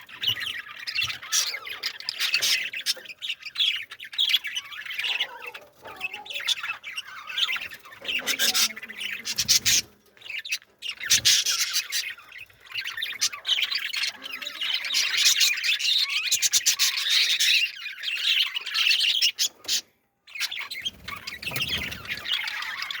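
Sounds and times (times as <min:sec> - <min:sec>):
birds chirping and squawking: 0:00.0 - 0:23.0.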